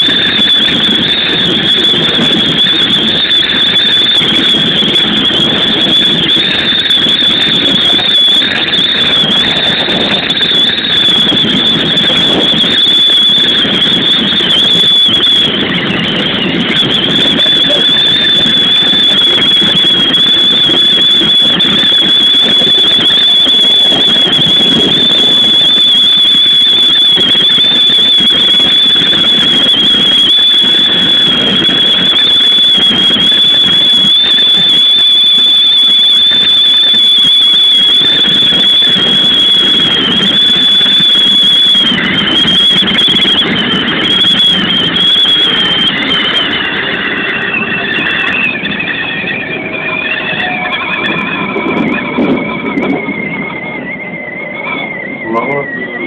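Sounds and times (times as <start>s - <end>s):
train wind noise and rumble: 0.0s - 35.6s, 36.2s - 56.0s
high-pitched motor whine: 0.0s - 56.0s.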